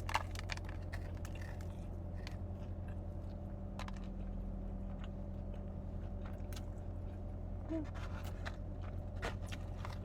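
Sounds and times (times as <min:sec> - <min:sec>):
close chewing mouth sounds: 0:00.0 - 0:10.0
steady low hum: 0:00.0 - 0:10.0.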